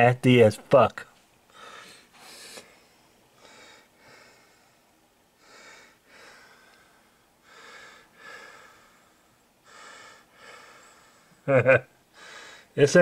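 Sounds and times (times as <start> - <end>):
person breathing: 1.5 - 11.5, 12.1 - 12.8.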